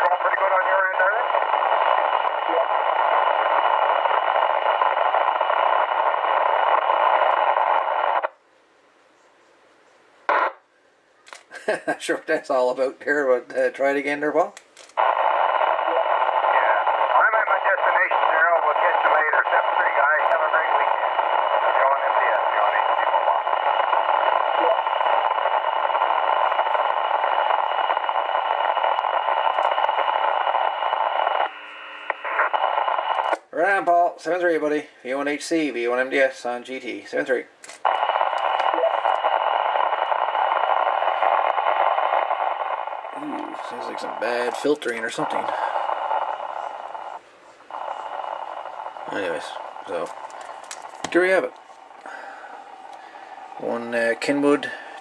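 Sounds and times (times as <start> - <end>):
buzzy radio hiss: 0.0 - 55.0.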